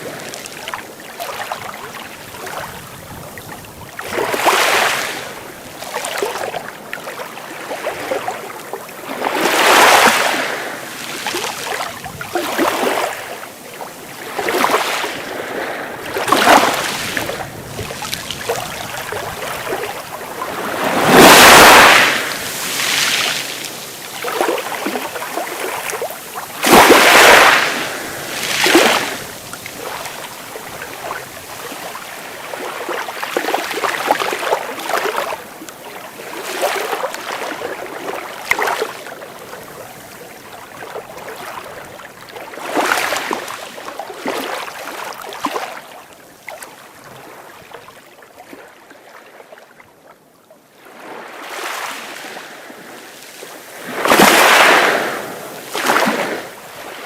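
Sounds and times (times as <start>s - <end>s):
sea waves breaking on beach: 0.0s - 49.7s, 50.7s - 57.0s.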